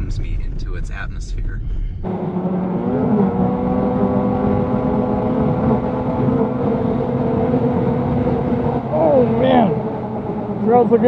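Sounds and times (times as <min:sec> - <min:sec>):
snowmobile engine running: 0:02.1 - 0:11.0.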